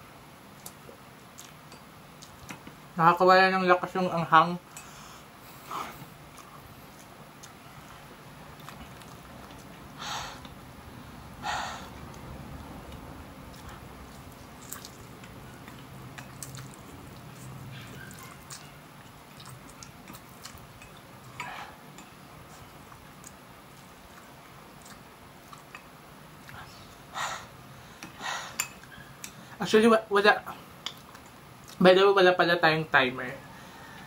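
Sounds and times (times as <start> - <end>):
person chewing: 0.5 - 2.7, 4.8 - 29.4, 30.6 - 31.8.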